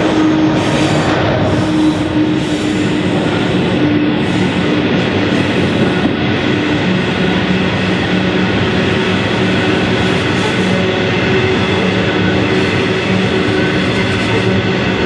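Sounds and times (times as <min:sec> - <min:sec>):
freight train wheels rumbling on track: 0:00.0 - 0:15.0.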